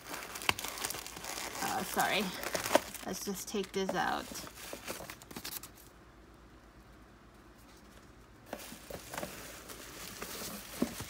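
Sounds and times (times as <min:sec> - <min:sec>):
bubble wrap and paper crinkling: 0:00.0 - 0:06.0, 0:07.6 - 0:11.0.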